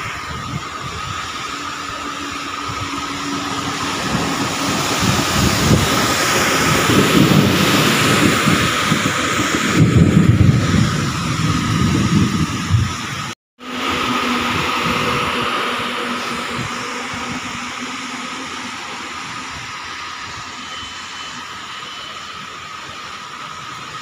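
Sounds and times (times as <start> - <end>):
torrential rain pouring: 0.0 - 20.7.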